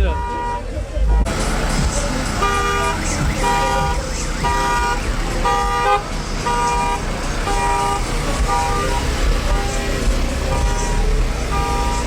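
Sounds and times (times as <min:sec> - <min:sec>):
deep bass rumble: 0:00.0 - 0:12.0
horn beeping: 0:00.0 - 0:12.0.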